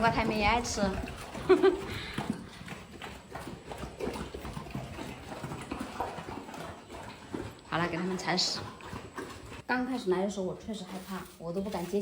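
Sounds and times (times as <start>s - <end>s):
dogs chewing food: 0.0s - 10.0s.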